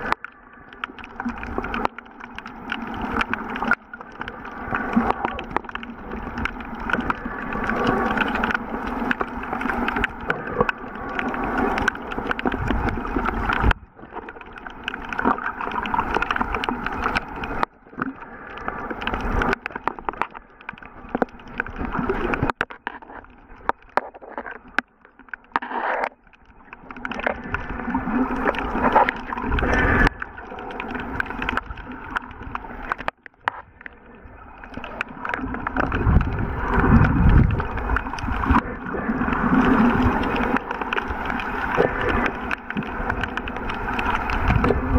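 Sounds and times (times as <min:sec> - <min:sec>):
muffled underwater sloshing: 0:00.0 - 0:44.9.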